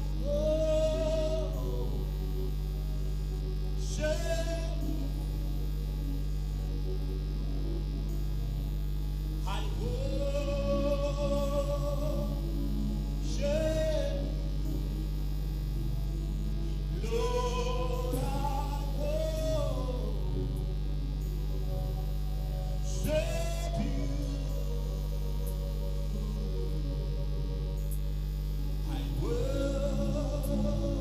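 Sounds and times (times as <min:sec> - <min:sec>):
gospel singing through microphones: 0:00.0 - 0:31.0
steady electrical hum: 0:00.0 - 0:31.0.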